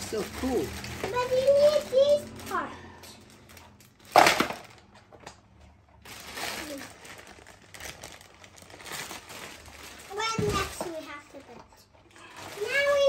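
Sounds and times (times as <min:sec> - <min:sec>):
plastic bag crinkling: 0:00.0 - 0:04.9, 0:06.0 - 0:13.0.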